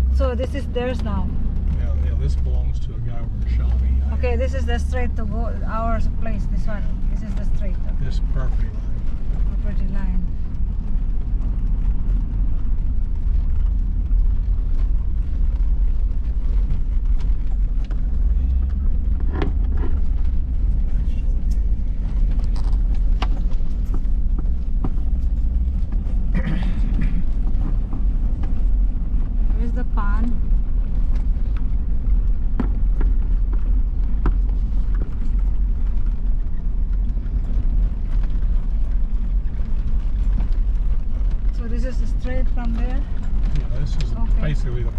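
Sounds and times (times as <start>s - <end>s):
vehicle rumbling over rough ground: 0.0s - 44.9s.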